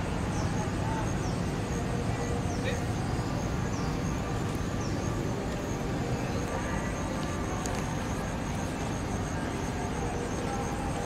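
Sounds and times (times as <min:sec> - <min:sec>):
faint high-pitched whine: 0:00.0 - 0:11.0
outdoor background rumble: 0:00.0 - 0:11.0.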